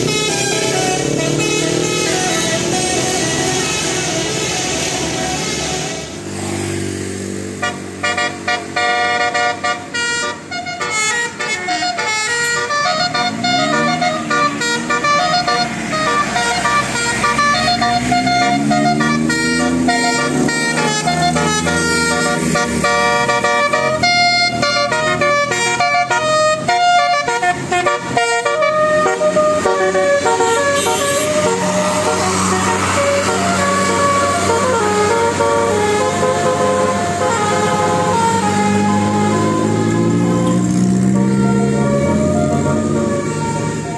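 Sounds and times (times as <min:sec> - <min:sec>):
multi-tone air horn melody: 0:00.0 - 0:06.2, 0:07.6 - 0:43.9.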